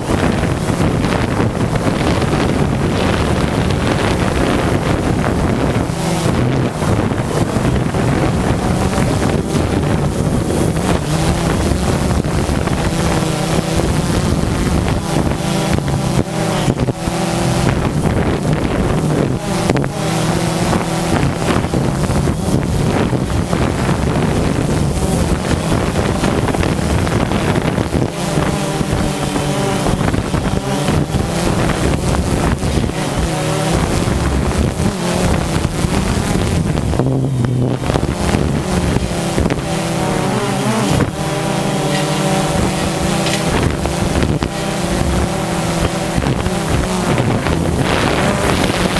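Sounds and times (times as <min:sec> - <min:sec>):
motor engine running: 0:00.0 - 0:48.9
wind noise on microphone: 0:00.0 - 0:48.9.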